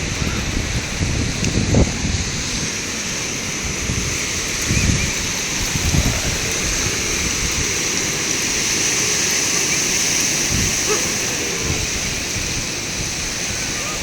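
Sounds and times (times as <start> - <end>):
ocean surf washing in: 0.0 - 14.0
wind buffeting microphone: 0.0 - 14.0.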